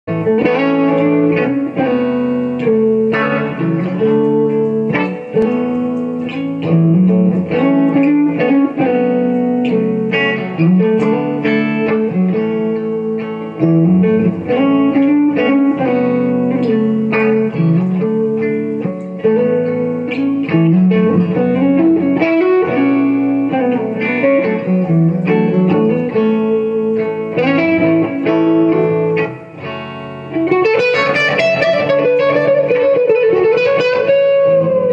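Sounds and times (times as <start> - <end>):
electric guitar playing chords and lead: 0.0 - 34.9.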